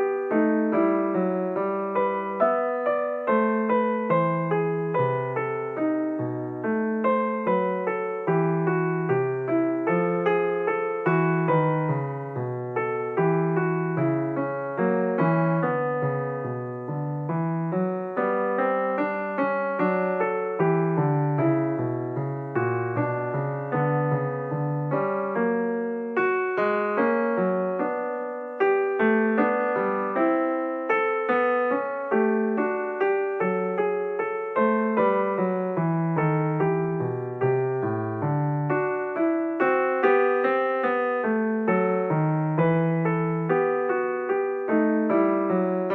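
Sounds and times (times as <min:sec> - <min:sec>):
gentle piano music: 0:00.0 - 0:45.9.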